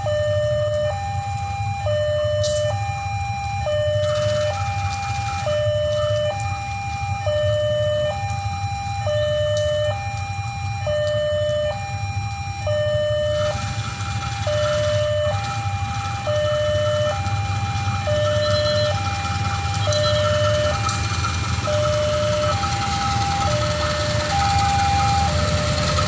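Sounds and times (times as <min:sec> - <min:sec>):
level crossing alarm two tones: 0:00.0 - 0:26.0.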